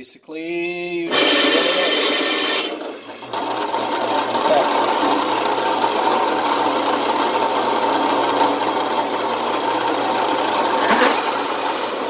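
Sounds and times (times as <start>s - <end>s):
drill press hole saw cutting wood: 1.1s - 12.0s.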